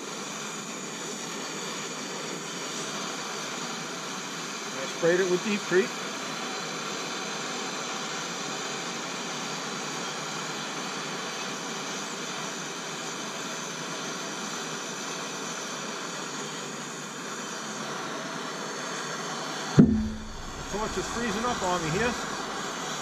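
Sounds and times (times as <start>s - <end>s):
gas torch hissing: 0.0s - 23.0s.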